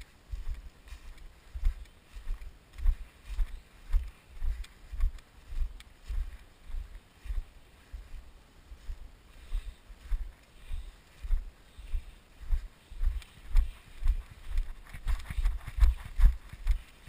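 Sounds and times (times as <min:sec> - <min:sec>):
footsteps on grass: 0:00.0 - 0:17.0.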